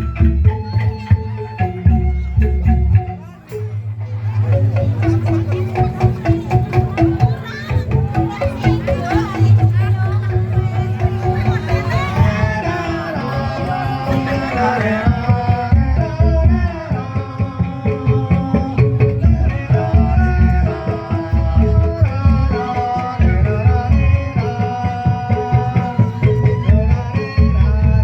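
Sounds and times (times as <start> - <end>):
hand drums: 0.0 - 28.0.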